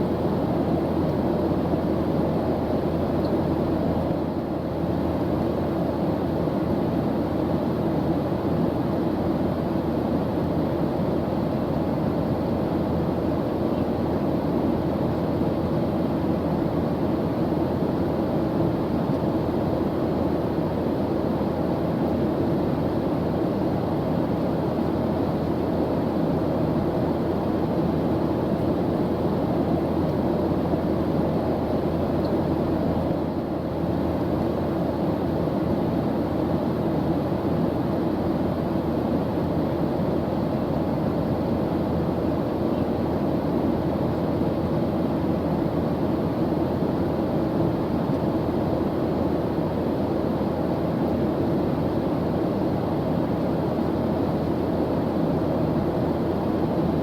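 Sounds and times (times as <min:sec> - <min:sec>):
airplane engines droning: 0:00.0 - 0:57.0.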